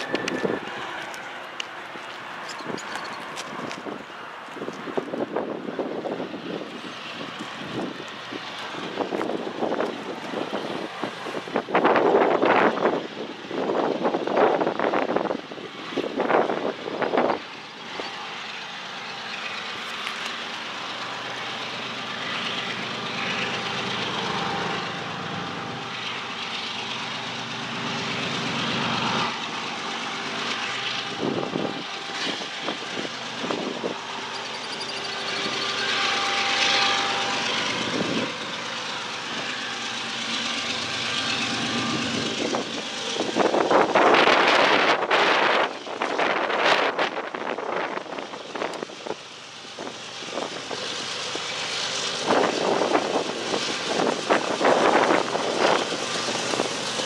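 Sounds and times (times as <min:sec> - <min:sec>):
wind buffeting microphone: 0:00.0 - 0:18.2, 0:27.4 - 0:57.0
distant engine drone: 0:00.0 - 0:57.0.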